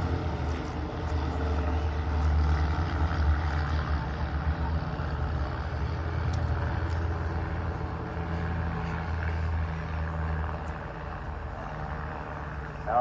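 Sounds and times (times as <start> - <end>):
propeller aircraft droning: 0.0 - 13.0.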